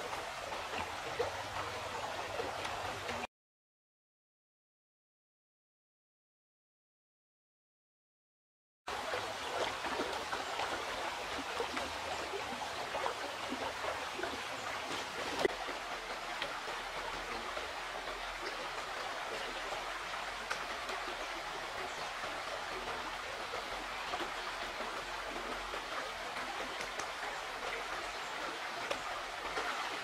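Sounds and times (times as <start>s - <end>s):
river flowing over stones: 0.0s - 3.3s, 8.9s - 30.0s.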